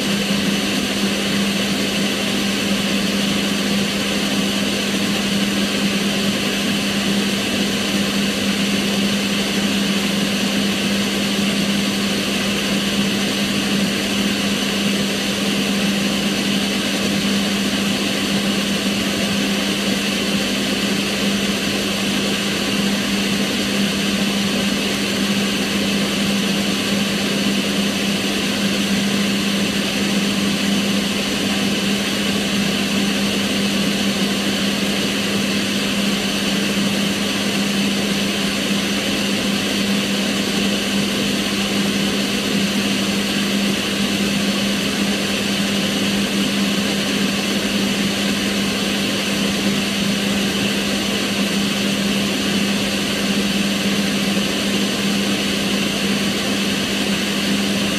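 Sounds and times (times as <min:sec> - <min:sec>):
range hood fan rushing air: 0:00.0 - 0:57.9.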